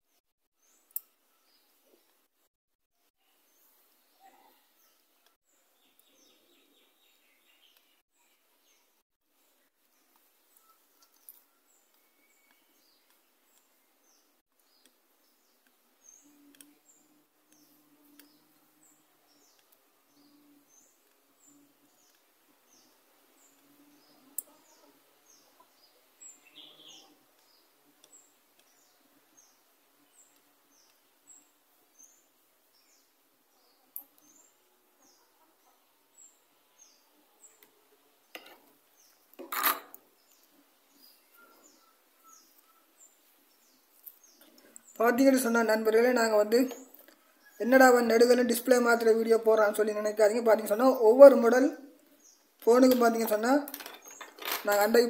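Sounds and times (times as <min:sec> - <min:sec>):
faint bird chirping: 0:00.0 - 0:02.4, 0:03.1 - 0:55.0.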